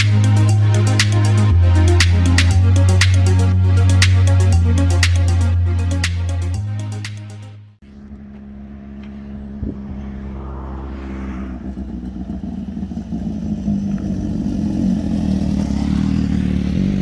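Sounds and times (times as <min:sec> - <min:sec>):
motorcycle engines approaching: 0:00.0 - 0:05.5, 0:07.8 - 0:17.0.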